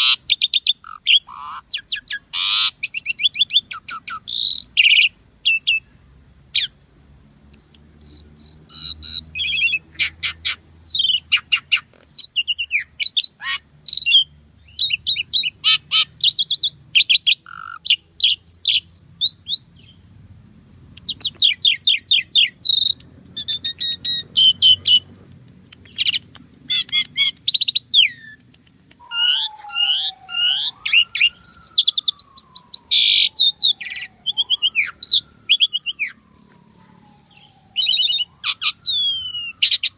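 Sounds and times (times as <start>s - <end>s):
starling singing: 0.0s - 5.9s, 7.6s - 20.0s, 21.0s - 39.9s.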